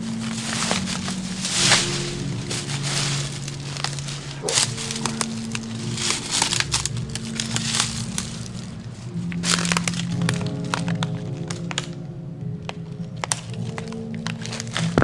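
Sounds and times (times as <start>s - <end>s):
debris crunching underfoot: 0.0s - 15.0s
droning background music: 0.0s - 15.0s.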